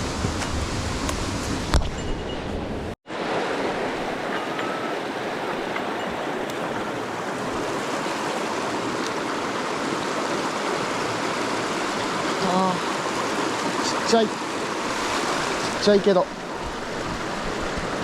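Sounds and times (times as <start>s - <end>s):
stream rushing over rocks: 3.1s - 18.0s.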